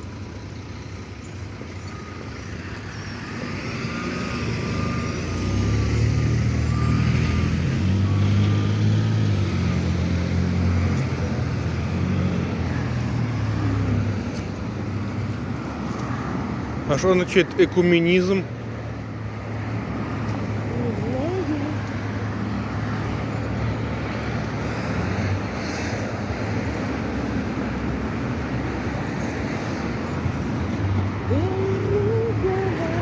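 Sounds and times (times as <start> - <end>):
steady traffic noise: 0.0 - 33.0
vehicle engine passing by: 0.0 - 33.0.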